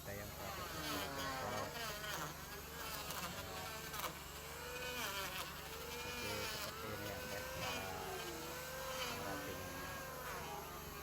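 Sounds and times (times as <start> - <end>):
small motor buzzing drone: 0.0 - 11.0.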